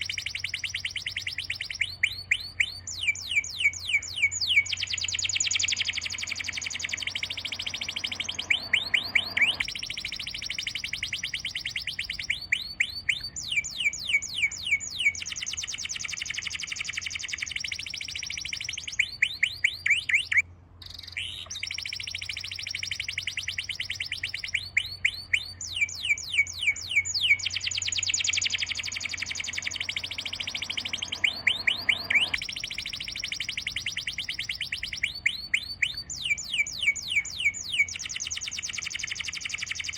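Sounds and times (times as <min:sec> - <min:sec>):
bird trilling and chirping: 0:00.0 - 0:39.9.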